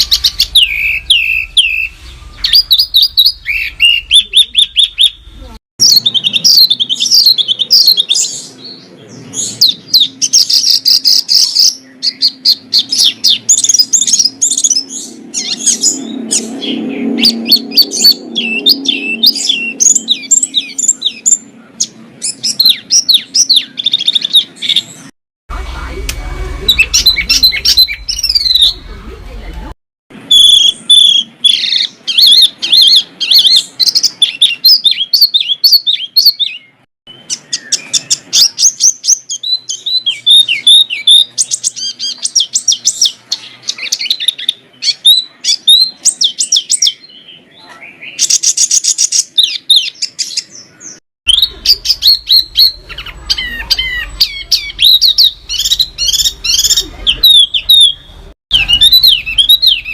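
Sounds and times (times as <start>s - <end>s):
songbird singing chirps and trills: 0.0s - 25.1s, 26.6s - 29.6s, 30.2s - 59.9s.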